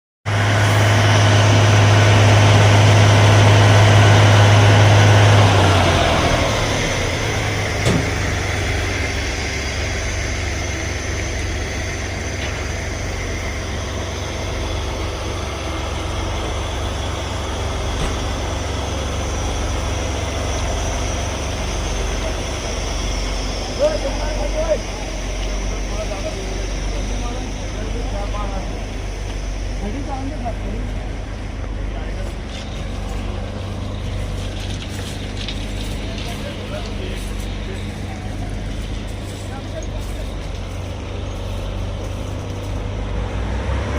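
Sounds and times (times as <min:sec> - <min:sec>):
machine running with low drone: 0:00.3 - 0:43.9.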